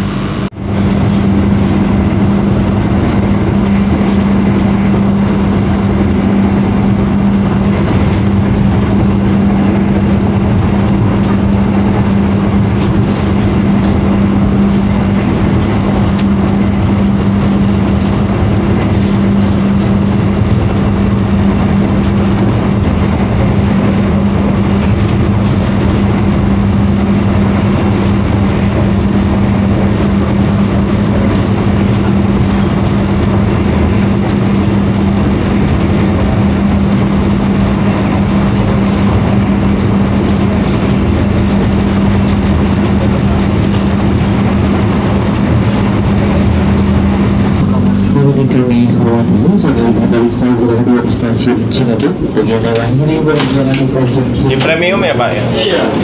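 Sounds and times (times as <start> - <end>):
constant low hum: 0.0 - 56.0
train wheels rolling on track: 0.7 - 56.0.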